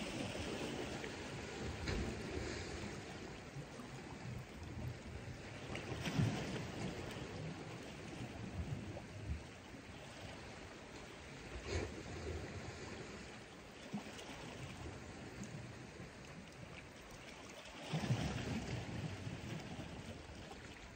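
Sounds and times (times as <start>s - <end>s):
water lapping at the shore: 0.0s - 20.9s.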